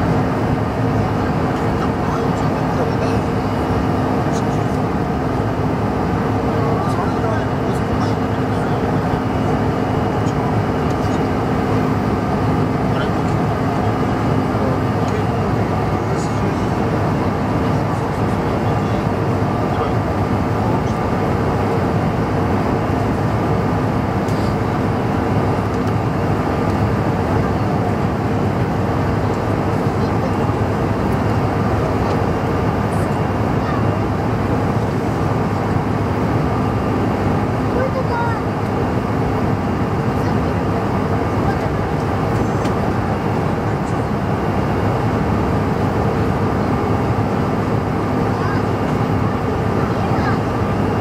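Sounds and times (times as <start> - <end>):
airplane cabin roar: 0.0 - 51.0
jet engines droning: 0.0 - 51.0.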